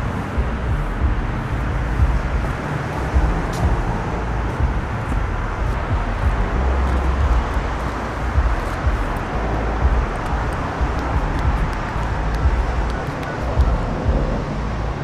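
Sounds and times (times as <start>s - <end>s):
uneven low rumble: 0.0s - 15.0s.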